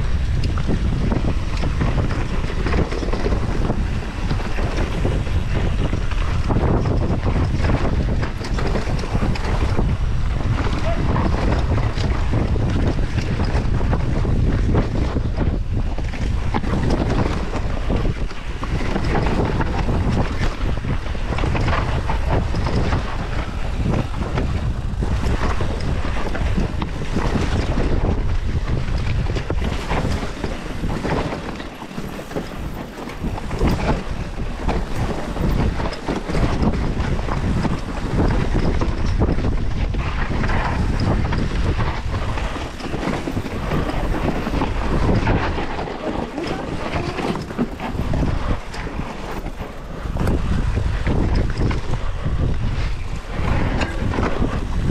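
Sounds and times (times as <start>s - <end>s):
bike rattling over rough ground: 0.0s - 54.9s
wind buffeting microphone: 0.0s - 54.9s.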